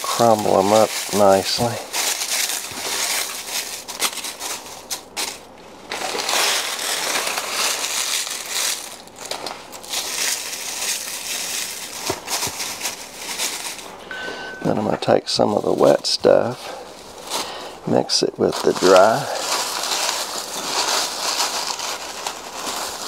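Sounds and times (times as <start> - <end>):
dry leaves crackling by hand: 0.0 - 23.0.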